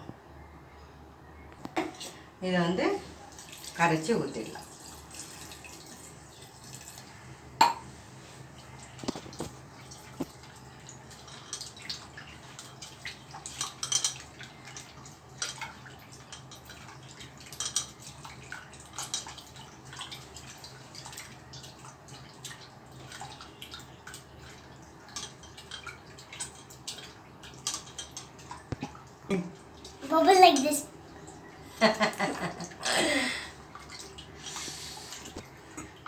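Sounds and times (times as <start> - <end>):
low steady hum: 0.0 - 36.0
small splashes and drips: 1.6 - 36.0.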